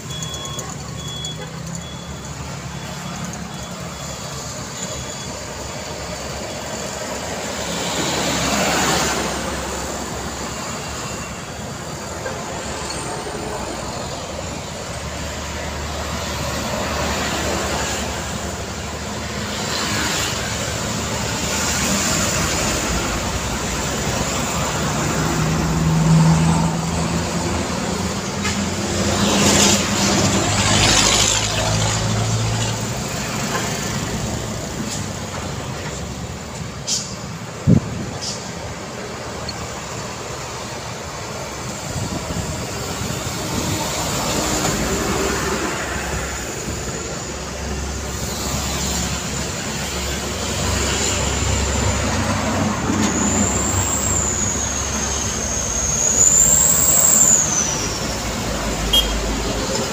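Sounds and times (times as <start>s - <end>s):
scooters cars and trucks passing: 0.0s - 59.9s.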